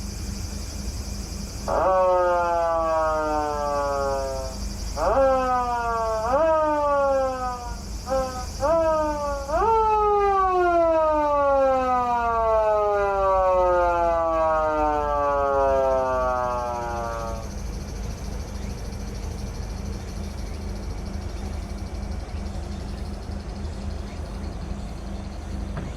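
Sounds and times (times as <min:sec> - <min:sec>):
low steady hum: 0:00.0 - 0:25.9
siren winding down: 0:01.4 - 0:25.9.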